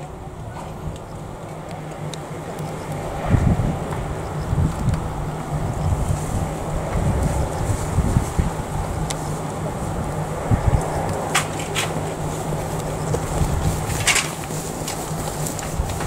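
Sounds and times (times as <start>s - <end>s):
steady low hum: 0.0s - 16.0s
wind buffeting microphone: 0.0s - 16.0s.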